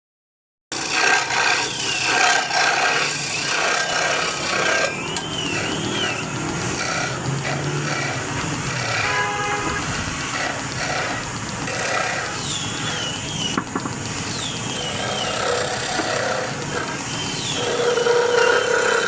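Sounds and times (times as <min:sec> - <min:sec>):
rasp scraping wood: 0:00.7 - 0:13.2, 0:14.7 - 0:19.0.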